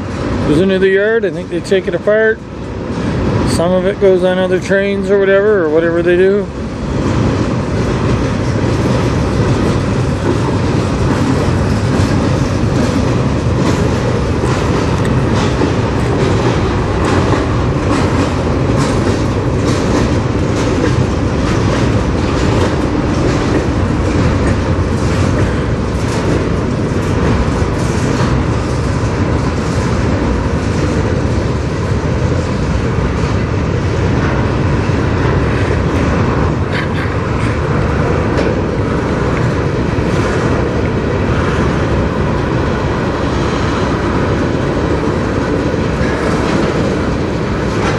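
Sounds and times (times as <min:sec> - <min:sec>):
freight train rumbling past: 0:00.0 - 0:47.9
wheels clacking over rail joints: 0:00.0 - 0:47.9.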